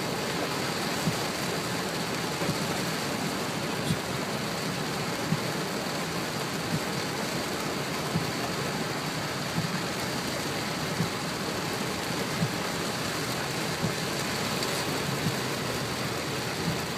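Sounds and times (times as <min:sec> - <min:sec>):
heavy rain hissing: 0:00.0 - 0:16.9.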